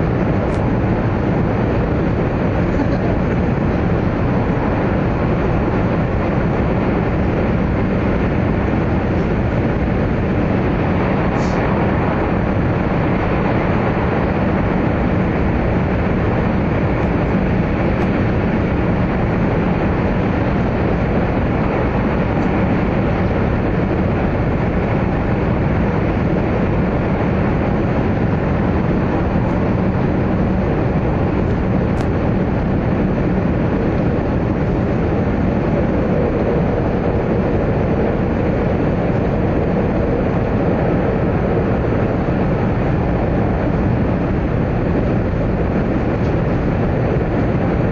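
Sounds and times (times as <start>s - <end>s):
train running rumble: 0.0s - 47.9s.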